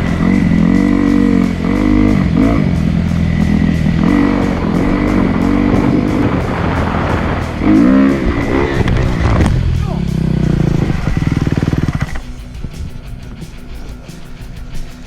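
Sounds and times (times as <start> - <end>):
background music: 0.0 - 15.0
dirt bike engine revving: 0.0 - 15.0.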